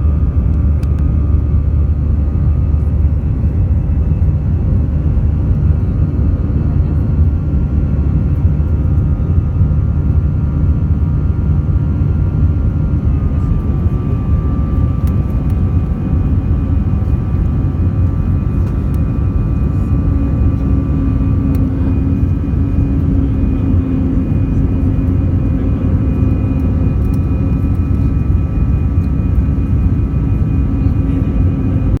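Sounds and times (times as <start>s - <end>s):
engine whine: 0.0s - 32.0s
jet engines low rumble: 0.0s - 32.0s.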